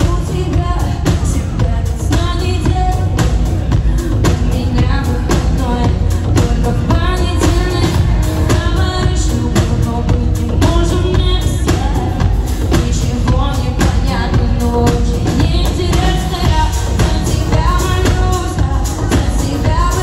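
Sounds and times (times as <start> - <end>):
pop band playing: 0.0 - 20.0
woman singing: 0.0 - 20.0.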